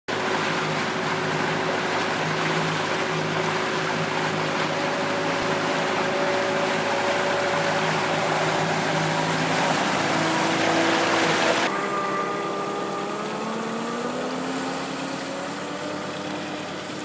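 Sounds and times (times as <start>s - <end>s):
boat engine humming: 0.1s - 17.0s
water rushing: 0.1s - 17.0s.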